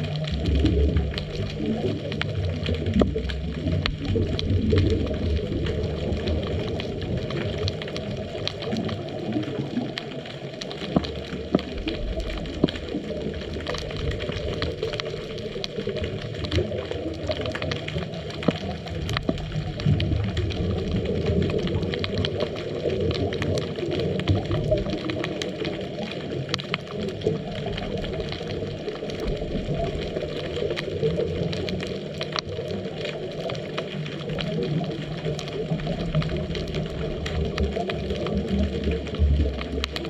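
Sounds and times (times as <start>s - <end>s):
low underwater rumble: 0.0s - 40.0s.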